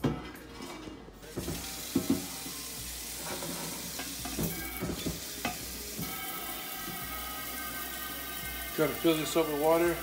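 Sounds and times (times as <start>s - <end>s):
water running into metal pot: 1.3s - 10.0s.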